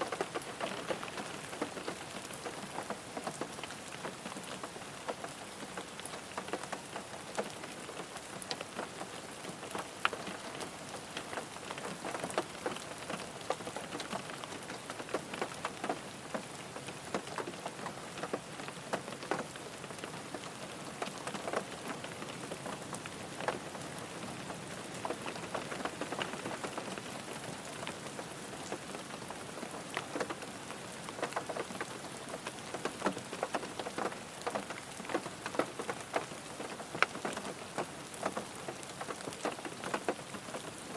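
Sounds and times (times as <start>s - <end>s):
raindrops ticking on car body: 0.0s - 40.9s.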